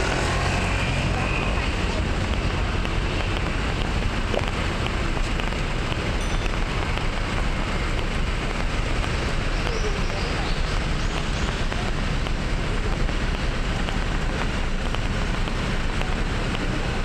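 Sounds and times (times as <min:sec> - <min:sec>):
city road traffic: 0:00.0 - 0:17.0.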